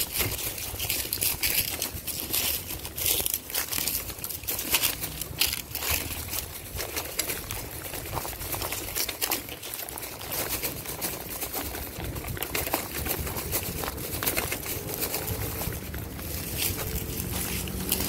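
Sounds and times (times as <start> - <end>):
footsteps crunching on leaves and gravel: 0.0 - 18.0
vehicle engine hum: 0.0 - 18.0.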